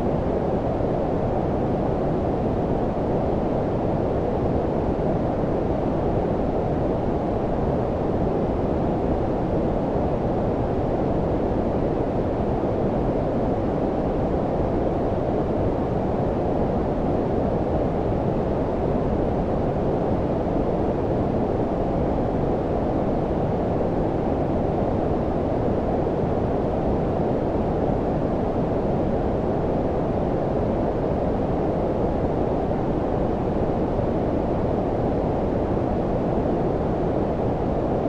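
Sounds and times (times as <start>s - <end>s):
low-pitched brown noise: 0.0s - 38.0s.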